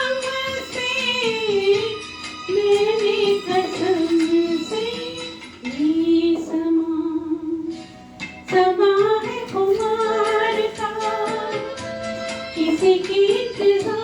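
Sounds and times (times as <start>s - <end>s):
woman singing: 0.0s - 7.9s, 8.5s - 11.9s, 12.5s - 14.0s.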